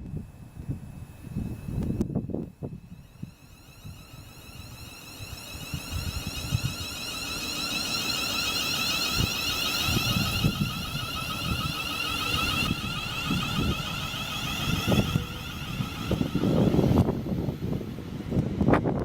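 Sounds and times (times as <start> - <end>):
wind buffeting microphone: 0.0 - 7.3, 9.0 - 19.0
train passing with high whine: 0.1 - 19.0.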